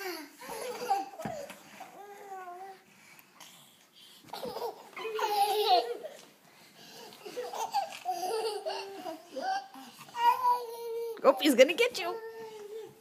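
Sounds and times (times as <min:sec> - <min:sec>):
toddlers giggling and squealing: 0:00.0 - 0:02.0, 0:04.2 - 0:13.0.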